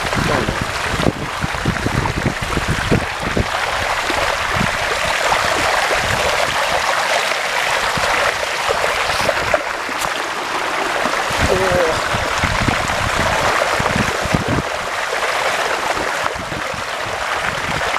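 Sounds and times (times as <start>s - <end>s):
water splashing while wading: 0.0s - 17.9s.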